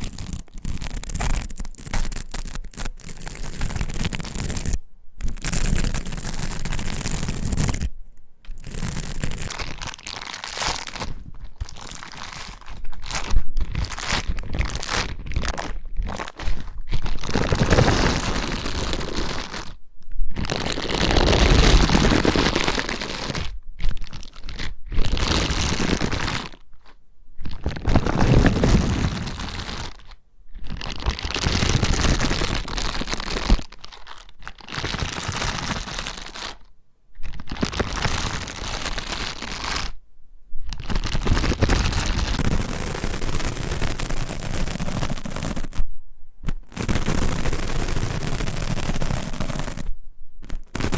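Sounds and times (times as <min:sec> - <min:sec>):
dense crackling and crunching: 0:00.0 - 0:40.0, 0:40.7 - 0:45.8, 0:46.4 - 0:50.9.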